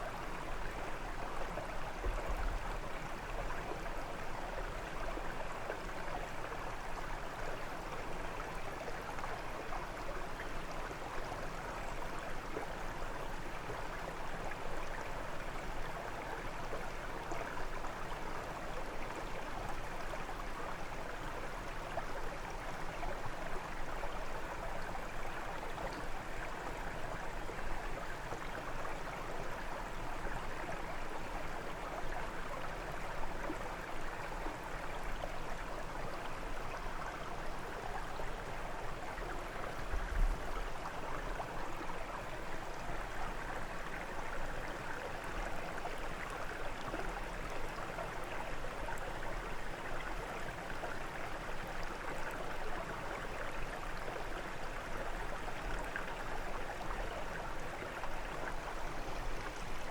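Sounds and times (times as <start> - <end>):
brook flowing over stones: 0.0 - 59.9.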